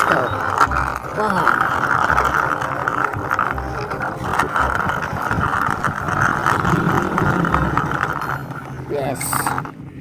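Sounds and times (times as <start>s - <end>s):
toy truck rolling on concrete: 0.0s - 10.0s.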